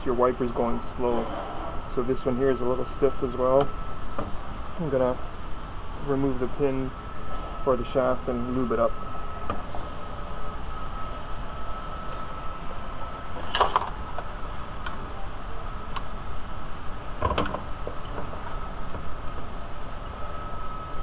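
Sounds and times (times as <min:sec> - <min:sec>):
steady high hum: 0:00.0 - 0:21.0.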